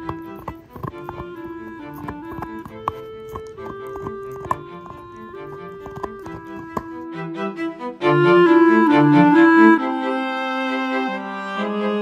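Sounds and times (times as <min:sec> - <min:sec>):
violin and cello melody: 0:00.0 - 0:12.0.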